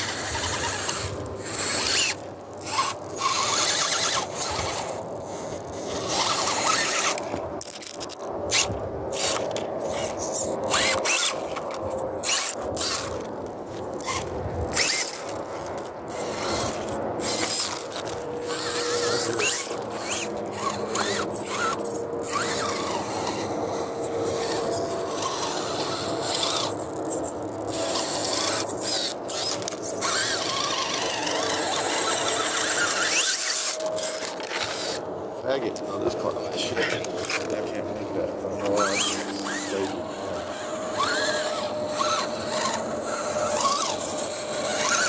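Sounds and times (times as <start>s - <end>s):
tyres scraping over rock: 0.0s - 35.0s, 36.2s - 45.0s
electric motor whining: 0.0s - 45.0s.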